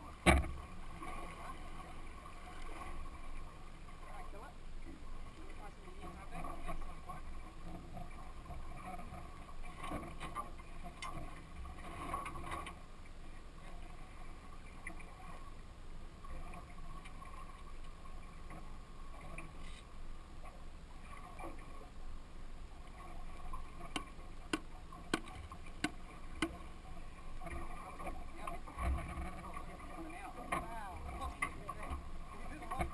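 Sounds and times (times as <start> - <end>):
sea and hull noise: 0.0 - 32.9.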